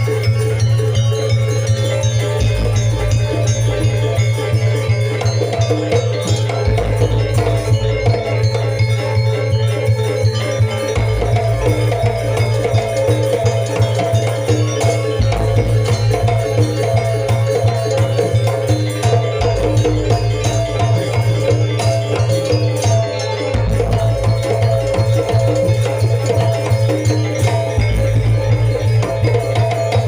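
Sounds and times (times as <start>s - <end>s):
metallophones repeating notes: 0.0s - 30.0s.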